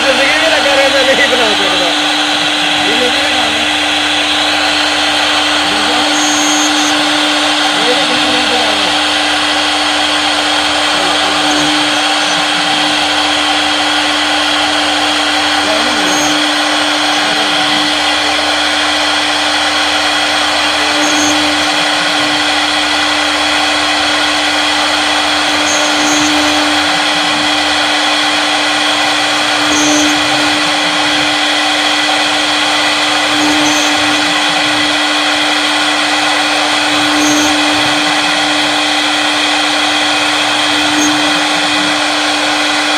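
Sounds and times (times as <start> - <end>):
wood router spindle whine: 0.0 - 42.9
low hum: 0.9 - 42.9.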